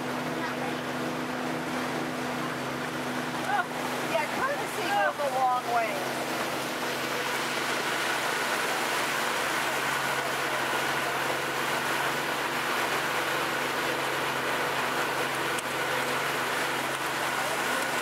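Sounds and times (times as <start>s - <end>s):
boat engine running: 0.0s - 18.0s
water rushing past hull: 0.0s - 18.0s.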